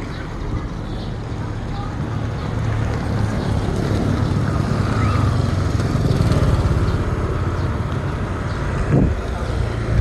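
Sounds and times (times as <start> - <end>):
small engine rumbling: 0.0 - 10.0.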